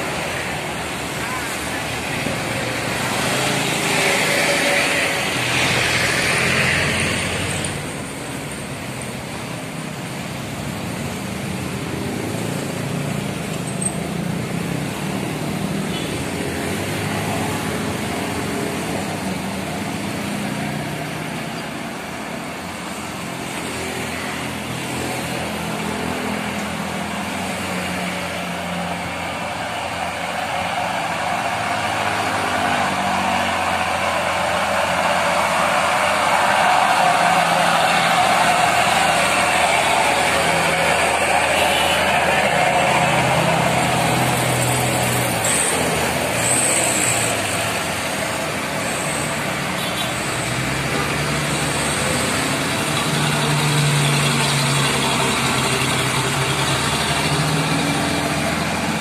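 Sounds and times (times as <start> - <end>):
diesel trucks labouring uphill: 0.0 - 59.0
motorcycles passing: 0.0 - 59.0.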